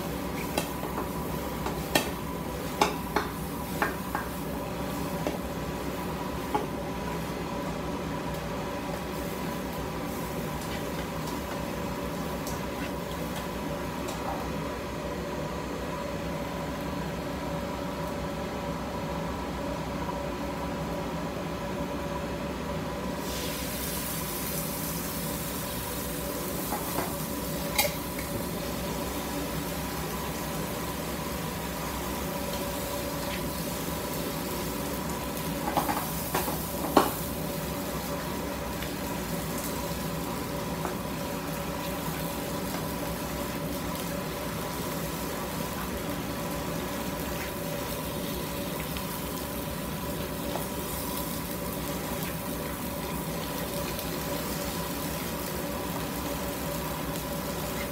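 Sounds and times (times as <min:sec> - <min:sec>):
food sizzling in a frying pan: 0:00.0 - 0:14.9, 0:23.1 - 0:57.9.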